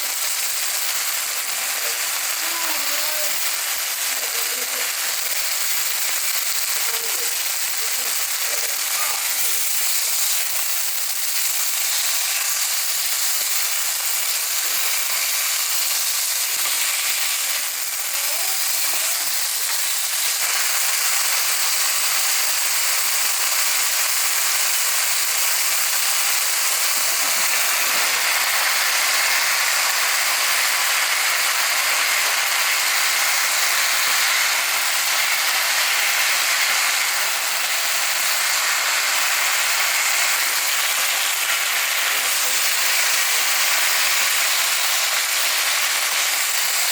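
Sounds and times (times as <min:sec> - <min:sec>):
food sizzling in a pan: 0:00.0 - 0:46.9.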